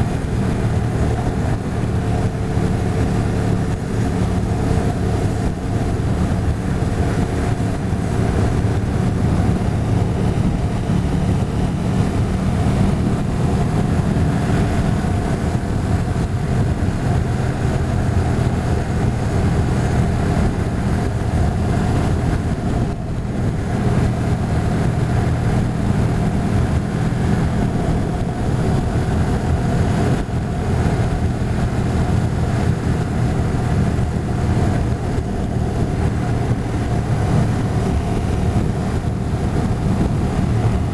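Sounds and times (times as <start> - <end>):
motorcycle engine running steadily: 0.0 - 40.9
road and wind noise: 0.0 - 40.9.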